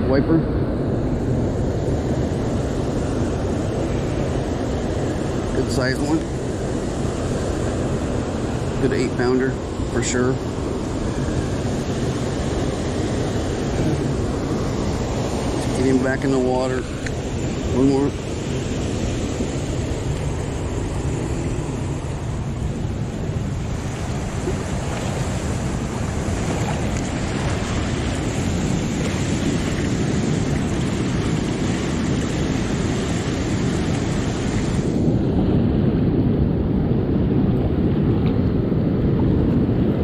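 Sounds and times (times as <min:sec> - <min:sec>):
whitewater rushing: 0:00.0 - 0:36.5
wind buffeting microphone: 0:00.0 - 0:40.0.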